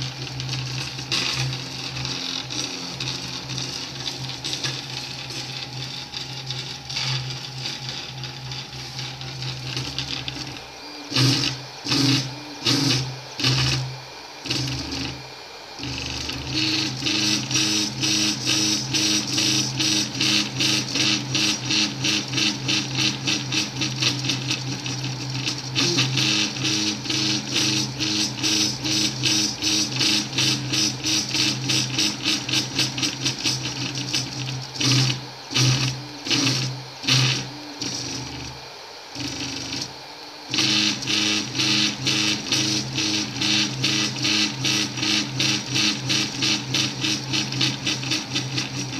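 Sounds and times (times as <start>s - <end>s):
stepper motors whining and buzzing: 0.0s - 48.9s.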